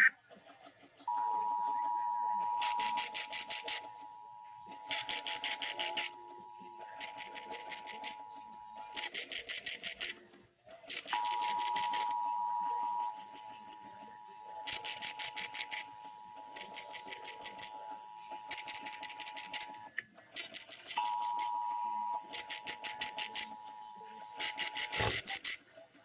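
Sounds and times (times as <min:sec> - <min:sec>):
two-tone attention signal: 0:01.1 - 0:10.1, 0:11.0 - 0:25.6.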